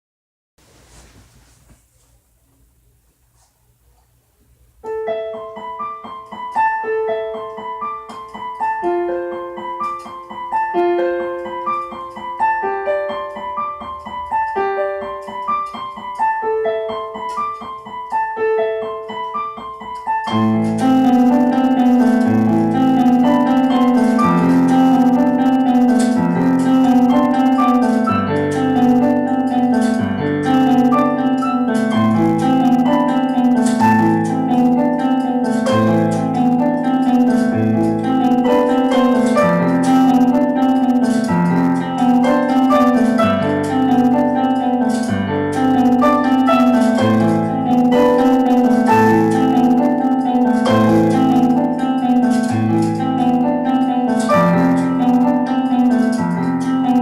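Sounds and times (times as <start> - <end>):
piano bass accompaniment: 4.8 - 57.0
piano melody: 4.8 - 57.0.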